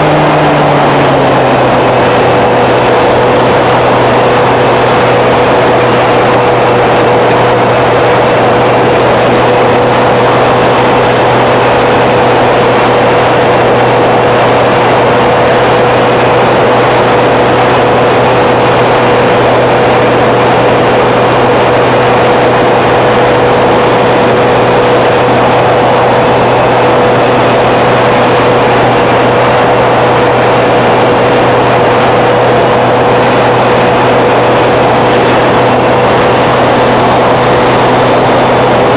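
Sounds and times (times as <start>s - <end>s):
model plane motor and propeller: 0.0s - 38.9s.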